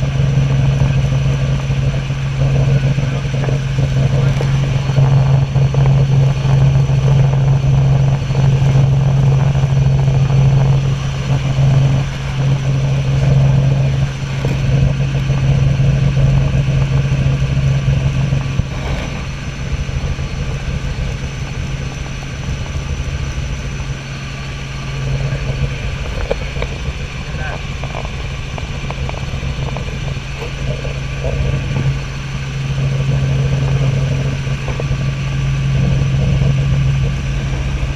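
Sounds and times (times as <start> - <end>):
helicopter engine and rotor drone: 0.0 - 37.9.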